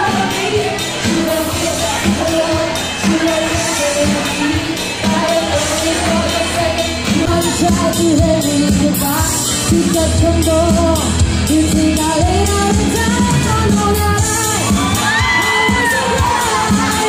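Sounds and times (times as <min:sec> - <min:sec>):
bass line: 0:00.0 - 0:17.0
guitar: 0:00.0 - 0:17.0
woman singing into microphone: 0:00.0 - 0:17.0.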